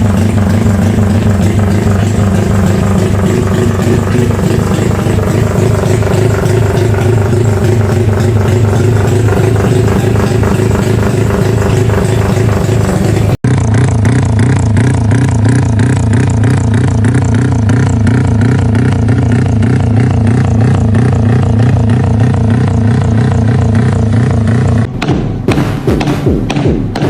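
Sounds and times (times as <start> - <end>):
motorcycle engine running loudly: 0.0 - 27.0.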